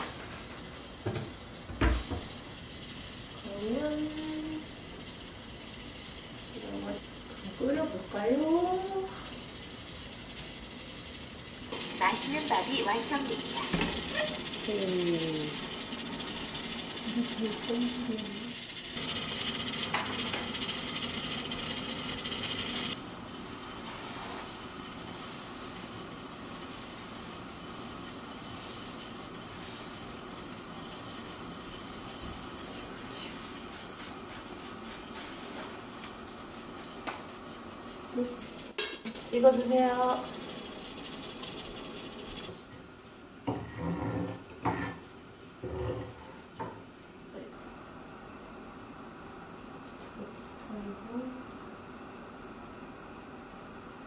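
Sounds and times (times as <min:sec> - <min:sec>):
gas burner hissing: 0:00.0 - 0:54.0.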